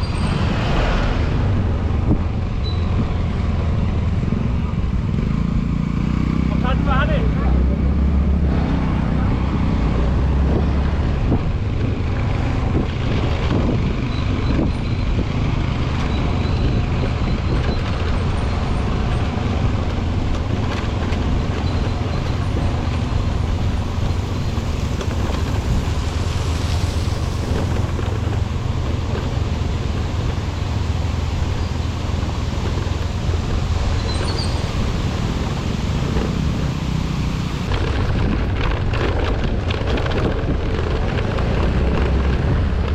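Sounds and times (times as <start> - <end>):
road and wind noise: 0.0 - 42.9.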